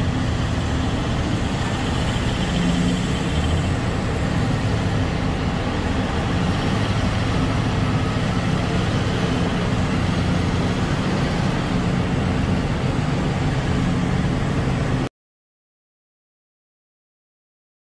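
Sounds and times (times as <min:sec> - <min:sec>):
heavy machinery engines droning: 0:00.0 - 0:15.1.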